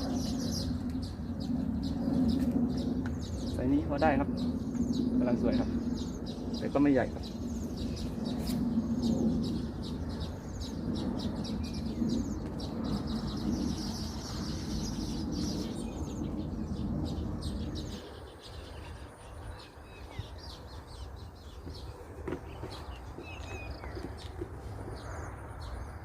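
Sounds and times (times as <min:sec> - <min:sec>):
low rumbling noise: 0:00.0 - 0:26.0
small birds chirping: 0:00.0 - 0:26.0.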